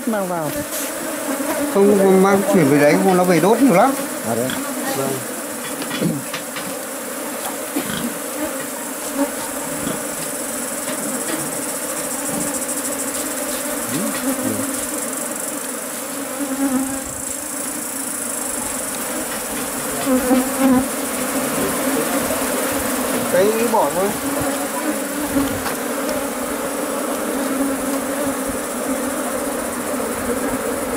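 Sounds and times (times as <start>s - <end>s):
bees buzzing: 0.0s - 30.9s.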